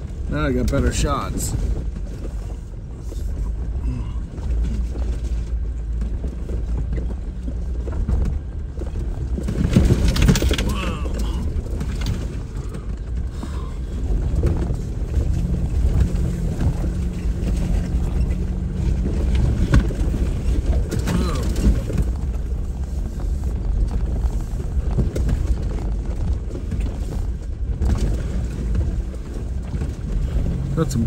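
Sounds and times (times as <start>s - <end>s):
engine and drivetrain rumble: 0.0s - 31.0s
vehicle body knocks and rattles: 4.4s - 31.0s.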